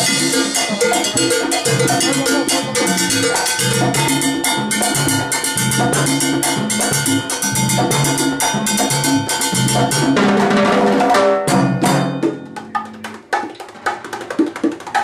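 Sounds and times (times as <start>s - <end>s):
conga tones: 0.0s - 15.0s
latin percussion jam: 0.0s - 15.0s.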